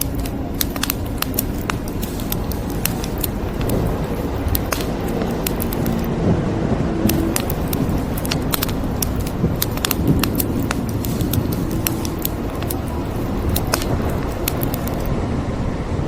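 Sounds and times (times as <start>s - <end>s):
wood fire crackling: 0.0s - 6.2s, 7.1s - 15.1s
low rumbling noise: 0.0s - 16.0s.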